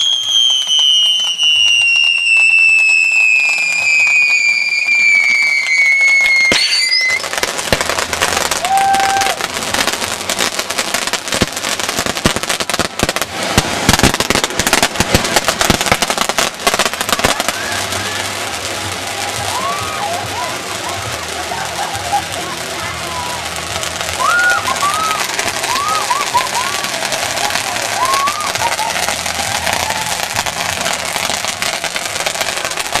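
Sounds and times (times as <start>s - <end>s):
firework whistle: 0.0s - 10.5s, 11.1s - 20.6s, 21.6s - 33.0s
fireworks crackling and popping: 0.0s - 33.0s.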